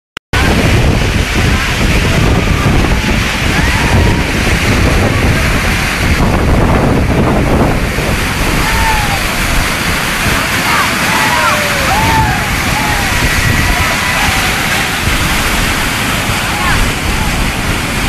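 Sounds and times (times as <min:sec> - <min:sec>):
water rushing from spillway: 0:00.4 - 0:18.0
wind buffeting microphone: 0:00.4 - 0:18.0.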